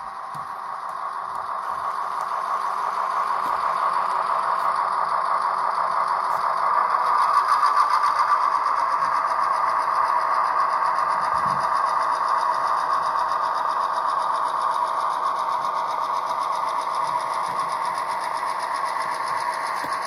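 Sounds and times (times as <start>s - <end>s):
model train whirring: 0.0s - 20.0s.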